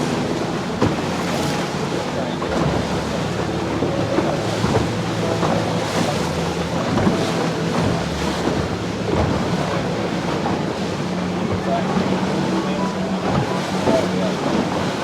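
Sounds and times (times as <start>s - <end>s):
boat engine hum: 0.0s - 15.0s
rushing water: 0.0s - 15.0s.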